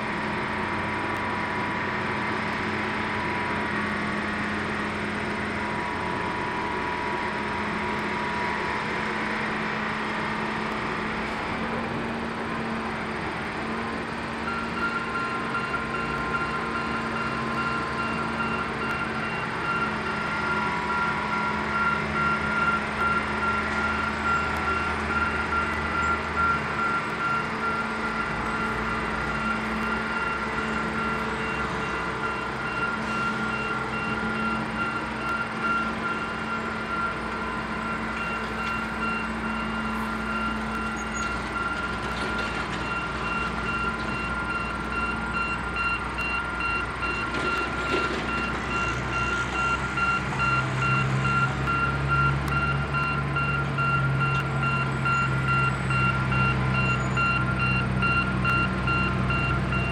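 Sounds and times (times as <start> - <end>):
truck engine passing: 0.0 - 59.9
yard equipment engines running: 0.0 - 59.9.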